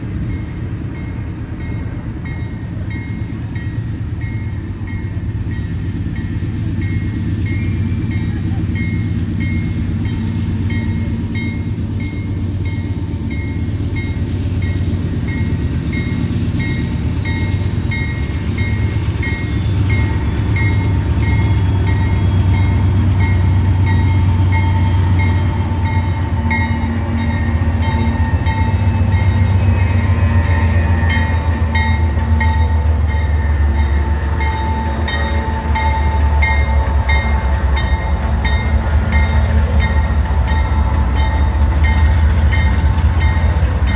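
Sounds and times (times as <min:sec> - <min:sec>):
train wheels rumbling on rail: 0:00.0 - 0:43.9
crossing bell ringing: 0:00.3 - 0:43.9.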